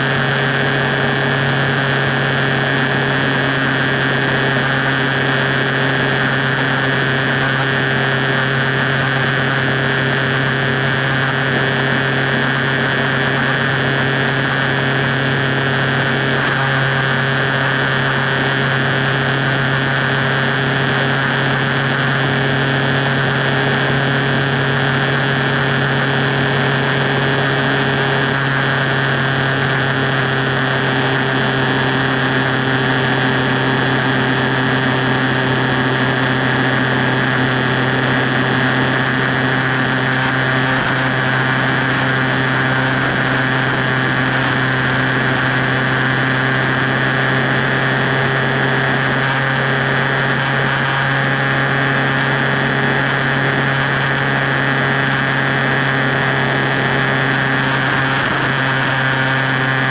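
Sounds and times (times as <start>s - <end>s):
motorcycle engine cruising: 0.0s - 59.9s
rushing wind and road noise: 0.0s - 59.9s.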